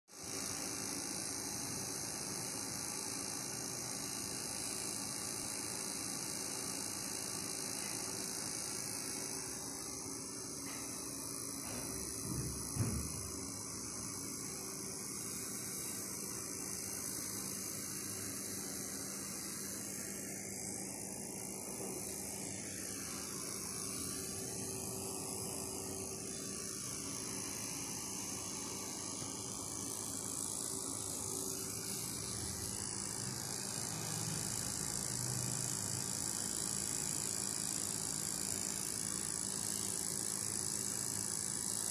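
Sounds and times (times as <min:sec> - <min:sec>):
motor or fan humming with hiss: 0:00.0 - 0:41.9.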